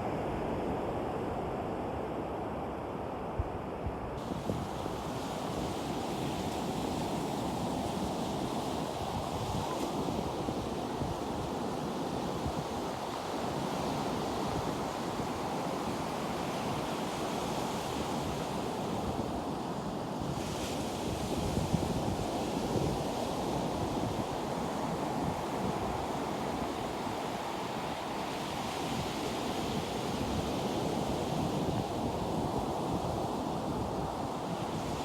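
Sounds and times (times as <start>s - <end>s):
wind on microphone: 3.2s - 35.0s
ocean surf washing: 4.2s - 35.0s.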